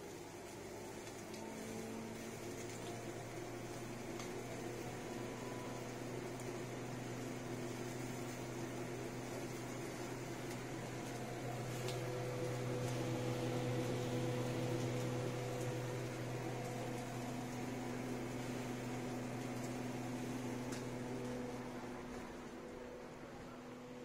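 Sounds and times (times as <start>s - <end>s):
exhaust fan motor humming: 0.0s - 24.0s.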